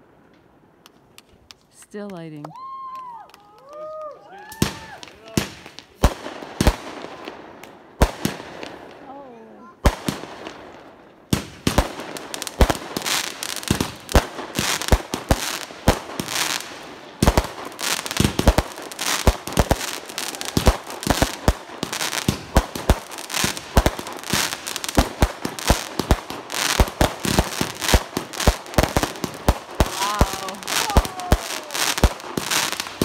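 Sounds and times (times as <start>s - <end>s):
fireworks crackle: 3.0s - 33.0s
fireworks bangs: 4.4s - 9.0s, 9.8s - 33.0s.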